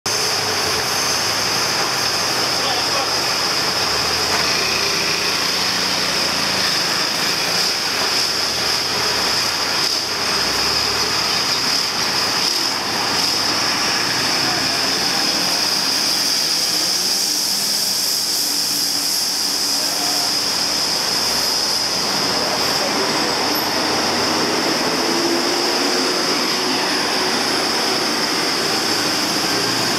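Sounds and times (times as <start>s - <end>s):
high-pitched buzz: 0.1s - 29.9s
high-pitched hiss: 0.1s - 29.9s
road traffic passing: 0.1s - 29.9s.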